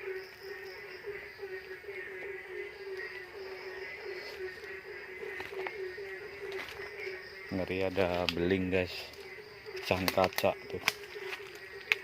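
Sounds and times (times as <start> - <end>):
frogs calling: 0.0 - 12.0
insect trills: 0.0 - 12.0.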